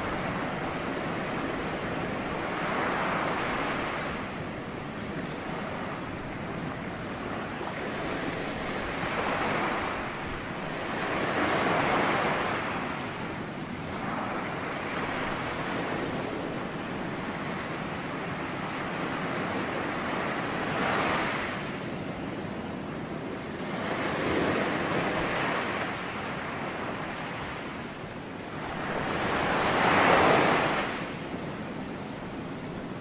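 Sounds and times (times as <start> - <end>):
ocean waves washing onto shore: 0.0 - 33.0.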